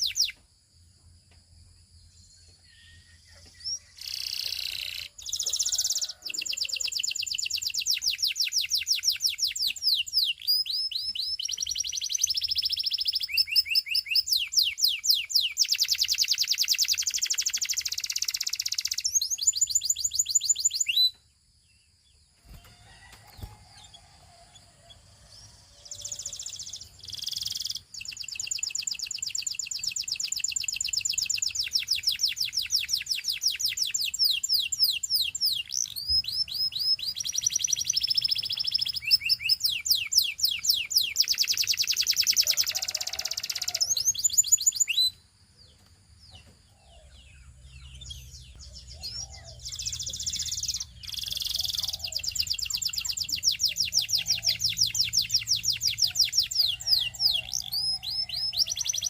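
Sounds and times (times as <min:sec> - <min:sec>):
canary singing in fast trills: 0:00.0 - 0:00.4, 0:02.5 - 0:21.2, 0:22.4 - 0:59.0.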